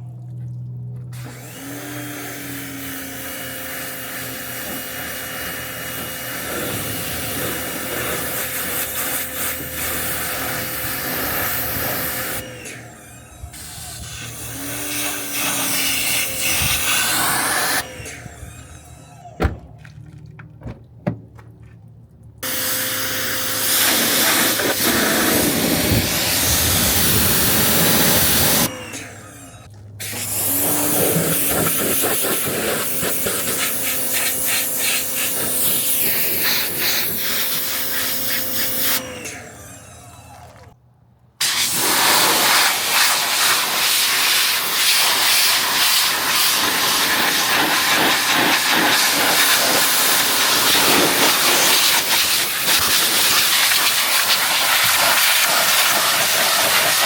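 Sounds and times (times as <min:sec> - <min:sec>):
pump motor humming: 0:00.0 - 0:21.5, 0:22.1 - 0:40.8, 0:41.4 - 0:57.0
pressure washer spraying water: 0:01.1 - 0:12.5, 0:13.6 - 0:18.0, 0:22.4 - 0:39.1, 0:41.4 - 0:57.0.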